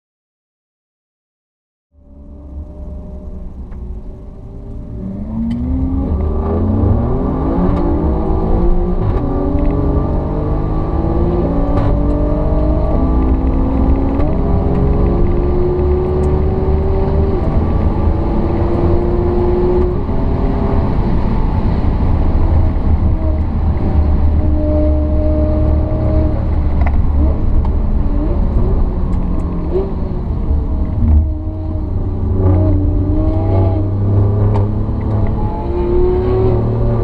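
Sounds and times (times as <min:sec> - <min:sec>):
car engine accelerating: 0:02.0 - 0:37.0.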